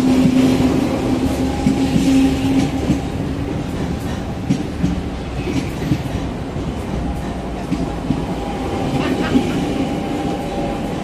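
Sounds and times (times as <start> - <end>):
train wheels clacking over rail joints: 0.0 - 11.0.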